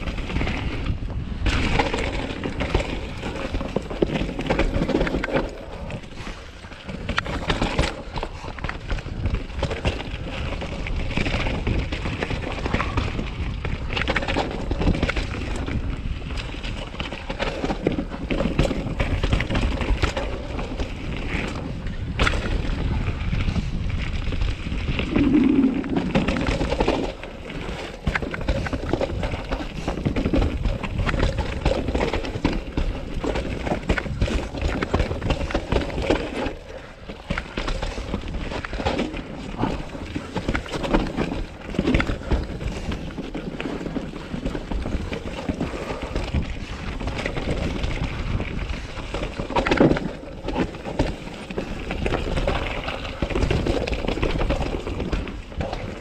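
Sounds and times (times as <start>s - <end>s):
bike rattling and knocking: 0.0s - 56.0s
tyres rolling over dirt: 0.0s - 56.0s
wind and ground rumble: 0.0s - 56.0s.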